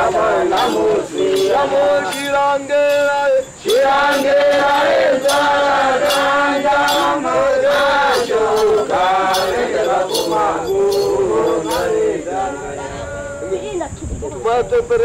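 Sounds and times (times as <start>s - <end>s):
regular sharp beat: 0.0s - 12.4s
group chanting in held notes: 0.0s - 13.5s.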